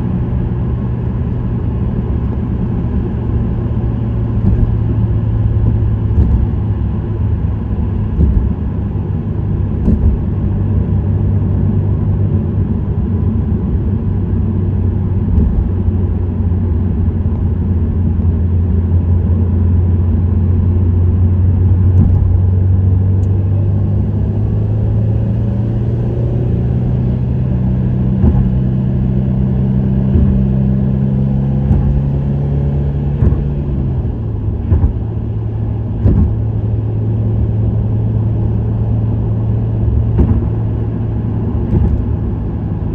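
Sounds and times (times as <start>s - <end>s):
car engine exhaust cruising: 0.0s - 42.9s.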